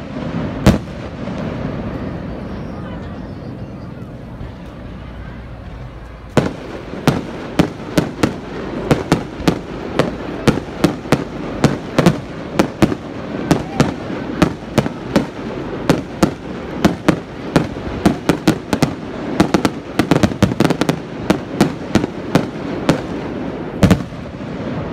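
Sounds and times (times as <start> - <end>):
fireworks bursting with sharp bangs: 0.0 - 24.9.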